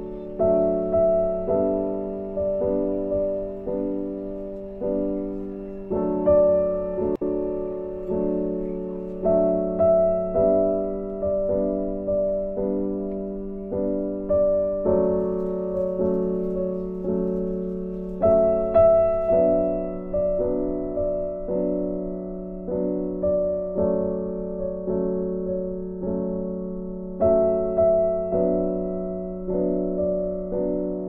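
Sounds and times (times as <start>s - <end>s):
soft piano notes: 0.0s - 31.0s.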